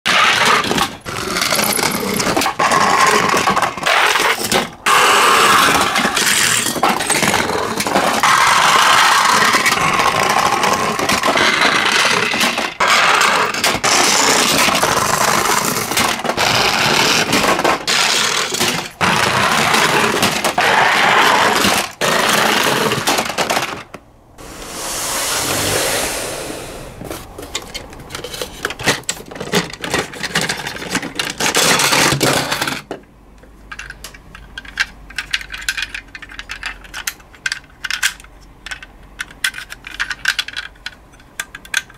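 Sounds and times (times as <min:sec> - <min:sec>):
toy cars clicking together: 0:00.1 - 0:24.0, 0:27.6 - 0:41.9
toy cars rolling on wooden track: 0:00.1 - 0:24.0, 0:24.7 - 0:33.0, 0:33.7 - 0:41.9.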